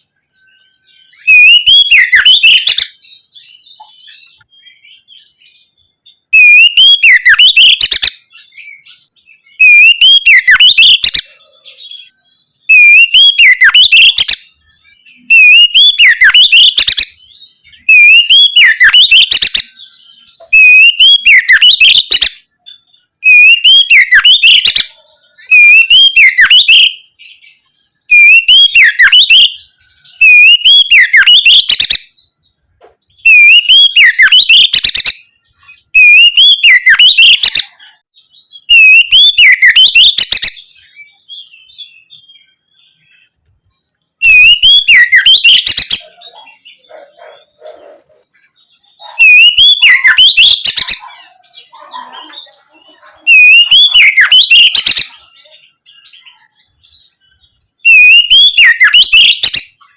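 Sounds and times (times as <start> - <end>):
bird singing whistled phrase: 0.1 - 32.4, 33.1 - 43.3, 44.2 - 47.8, 48.4 - 59.9.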